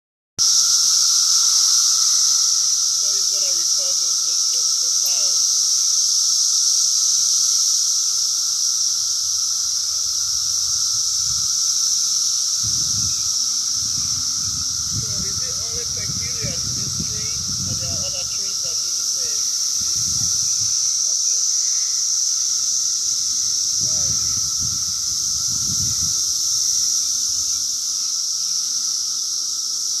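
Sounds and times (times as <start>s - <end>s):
cicadas singing: 0.4s - 30.0s.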